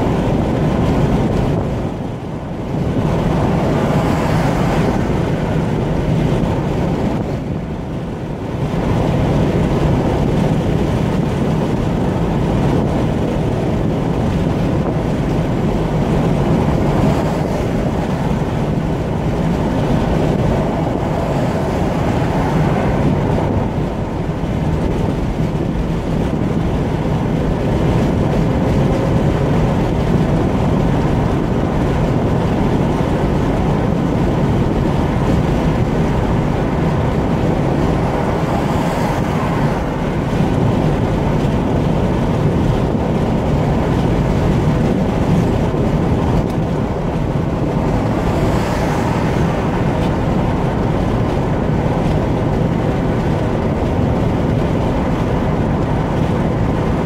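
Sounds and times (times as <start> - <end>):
tyres rumbling on asphalt: 0.0 - 57.0
wind noise: 0.0 - 57.0.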